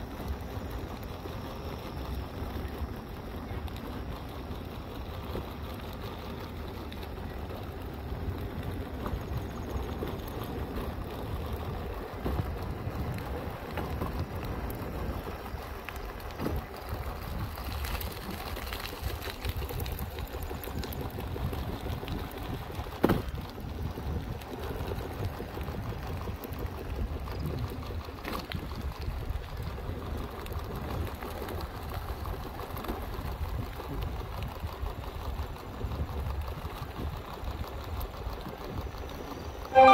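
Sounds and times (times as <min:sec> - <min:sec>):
wheels rumbling on asphalt: 0:00.0 - 0:39.9.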